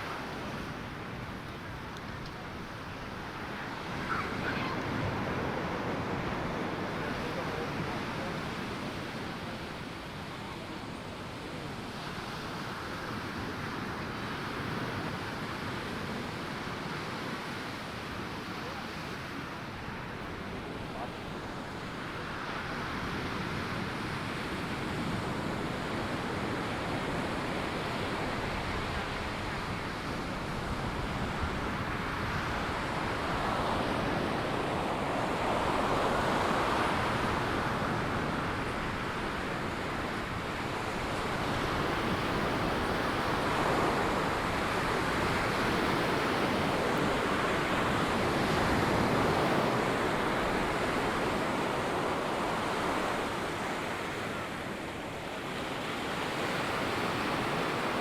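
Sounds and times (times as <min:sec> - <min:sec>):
ocean surf breaking on beach: 0:00.0 - 0:58.0
wind on microphone: 0:00.0 - 0:58.0.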